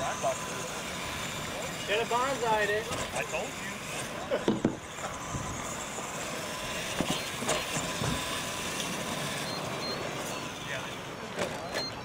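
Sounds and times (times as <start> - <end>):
toy truck motor and tyres running: 0.0 - 12.0.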